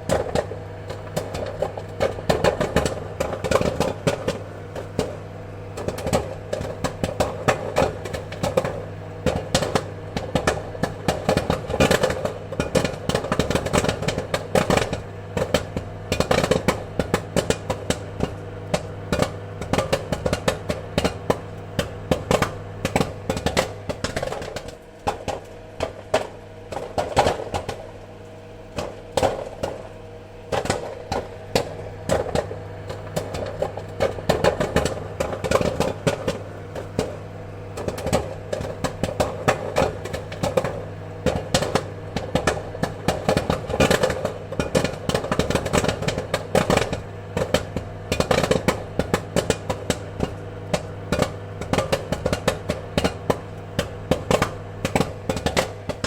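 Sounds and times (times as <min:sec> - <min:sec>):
popcorn popping: 0:00.0 - 0:56.0
steady low hum: 0:00.0 - 0:56.0.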